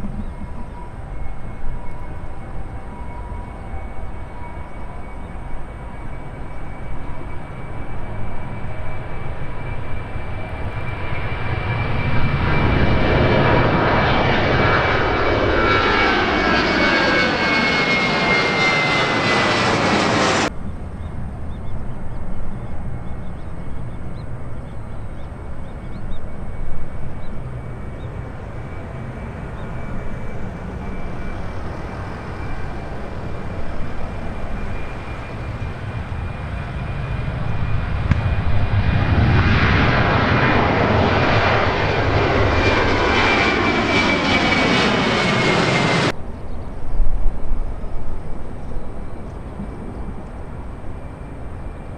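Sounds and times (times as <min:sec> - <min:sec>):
distant jet engine noise: 0:00.0 - 0:51.9
jet aircraft passing: 0:00.0 - 0:51.9.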